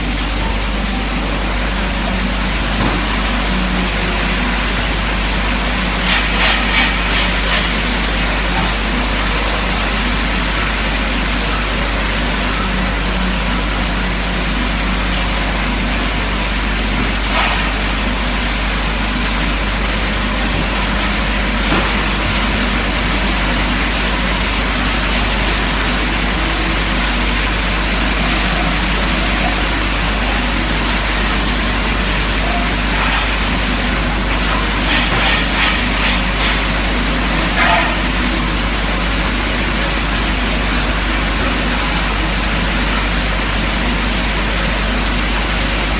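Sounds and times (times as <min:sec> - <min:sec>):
polishing machine running: 0:00.0 - 0:45.9.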